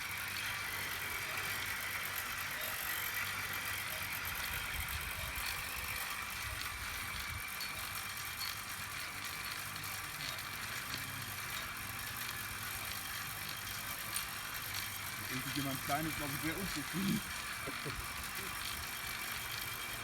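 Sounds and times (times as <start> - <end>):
high motor whine: 0.0 - 20.0.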